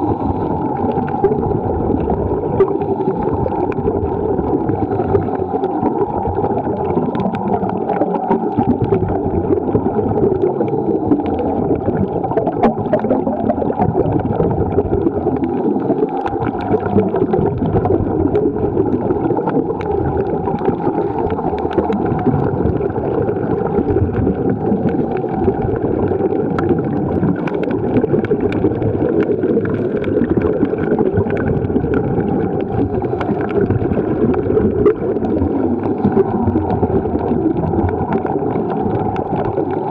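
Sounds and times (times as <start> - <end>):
muffled underwater rush: 0.0 - 39.9.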